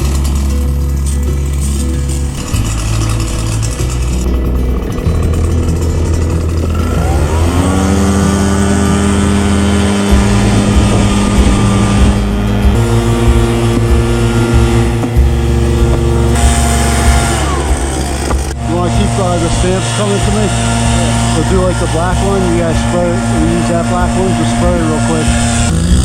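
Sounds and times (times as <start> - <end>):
held chords over bass line: 0.0 - 26.0.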